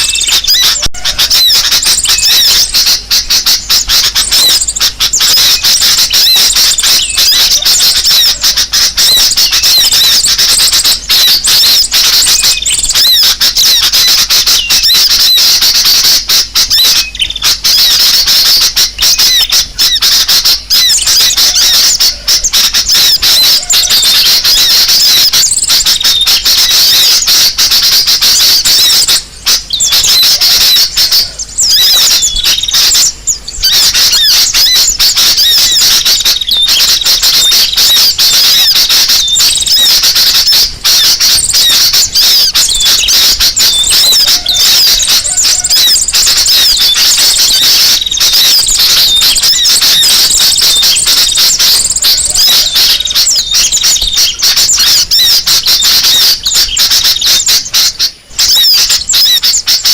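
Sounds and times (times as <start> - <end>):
small birds twittering and chirping: 0.0 - 59.9.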